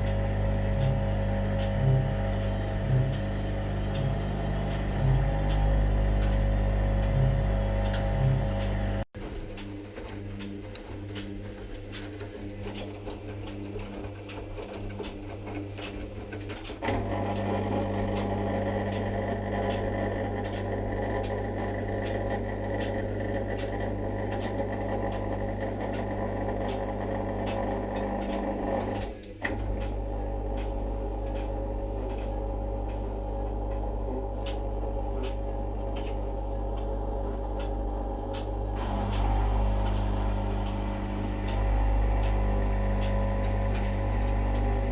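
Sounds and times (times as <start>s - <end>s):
faint clicks: 0.0s - 44.9s
steady machine hum: 0.0s - 44.9s.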